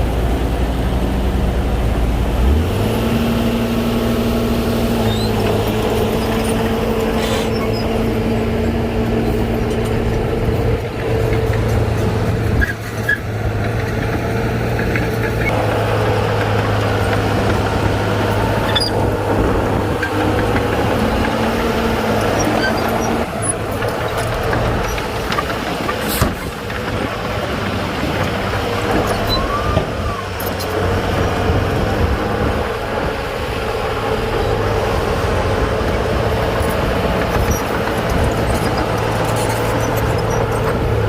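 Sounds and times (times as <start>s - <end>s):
bulldozer diesel engine running: 0.0s - 41.0s.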